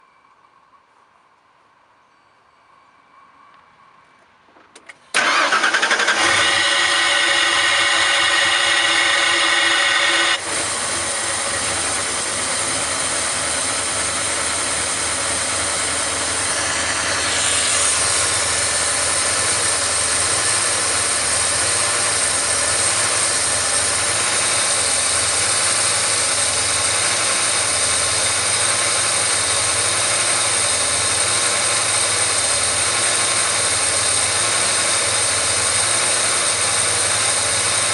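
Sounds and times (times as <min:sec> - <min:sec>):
car engine starting and idling: 0:04.7 - 0:37.9.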